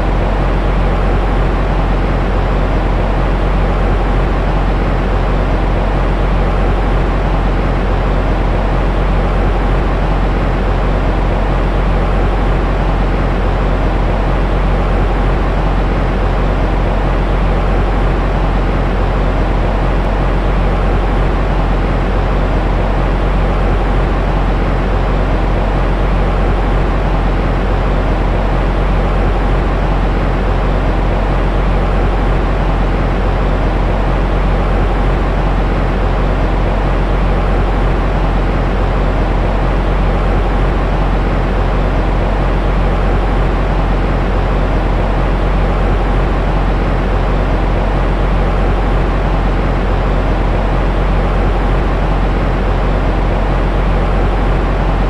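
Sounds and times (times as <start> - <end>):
deep white noise hiss: 0.0 - 55.0
faint hum: 0.0 - 55.0.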